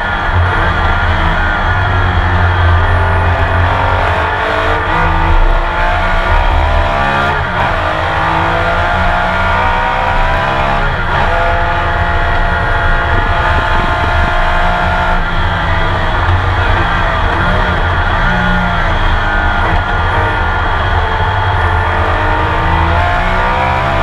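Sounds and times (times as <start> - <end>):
racing engine accelerating: 0.0 - 24.0.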